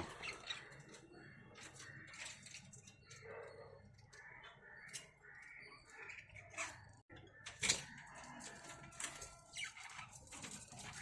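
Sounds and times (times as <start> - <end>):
birdcage clicks and rustling: 0.0 - 5.2, 6.1 - 11.0.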